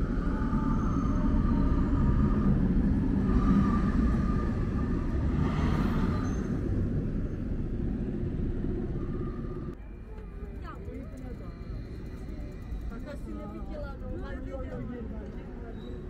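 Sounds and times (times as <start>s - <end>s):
tram wheels rumbling on track: 0.0s - 16.0s.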